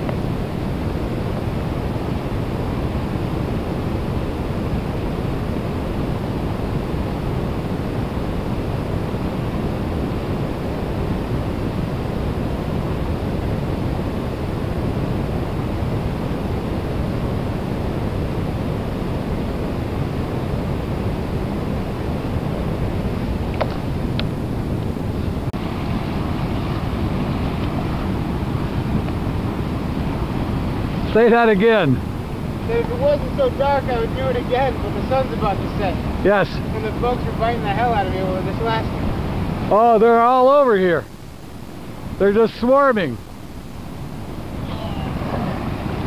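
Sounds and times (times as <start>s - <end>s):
river rushing through rapids: 0.0s - 46.0s.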